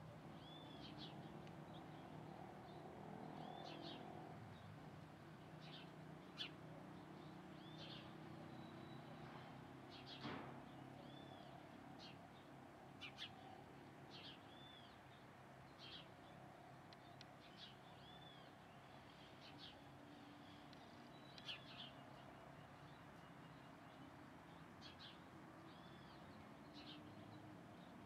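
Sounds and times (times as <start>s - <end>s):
faint low background noise: 0.0s - 28.0s
sparrow chirping: 0.3s - 27.9s.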